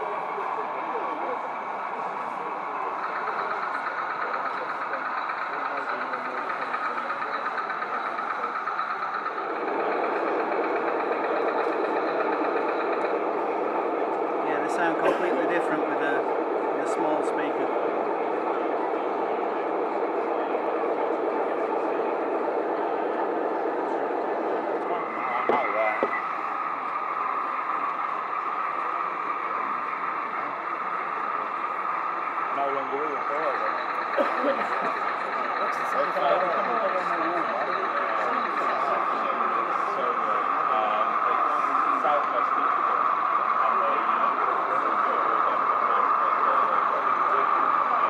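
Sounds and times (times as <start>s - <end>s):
exhibition hall background hum: 0.0s - 48.0s
model locomotive diesel engine: 0.0s - 48.0s.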